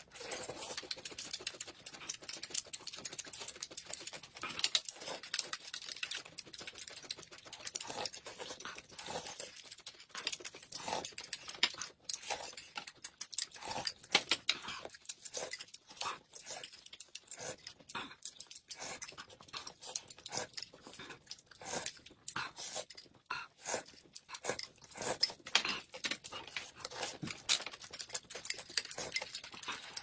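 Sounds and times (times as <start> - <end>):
wet chewing and slurping: 0.0 - 30.0.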